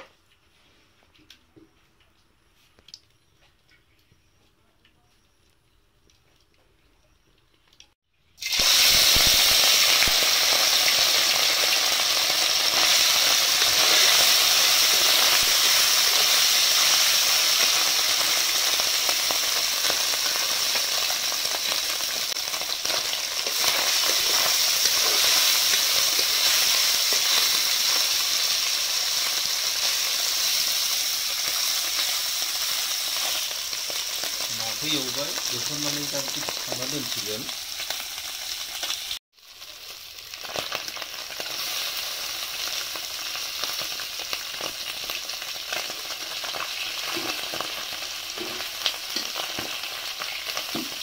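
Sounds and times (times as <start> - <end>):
fish frying in hot oil: 8.4 - 51.0.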